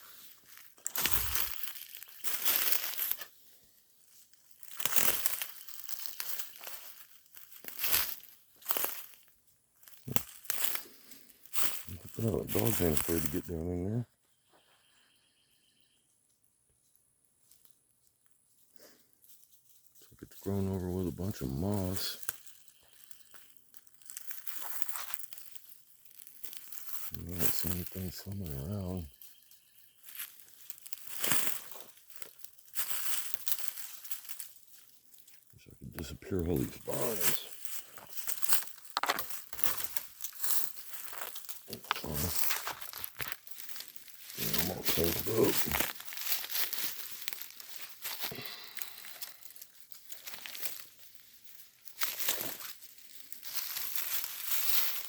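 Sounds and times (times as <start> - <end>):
dry leaves and twigs crackling: 0.0 - 55.0.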